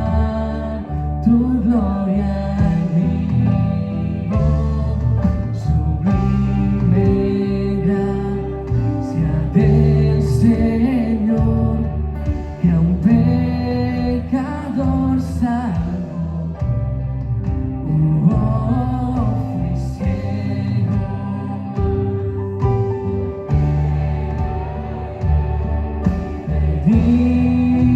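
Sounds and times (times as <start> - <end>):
person singing: 0.0 - 17.0, 17.8 - 27.9
worship band playing: 0.0 - 27.9.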